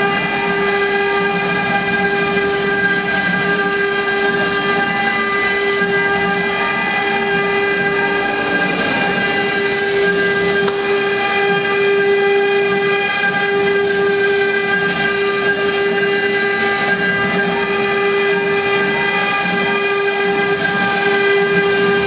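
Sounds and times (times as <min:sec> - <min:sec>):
router spindle whining: 0:00.0 - 0:22.0.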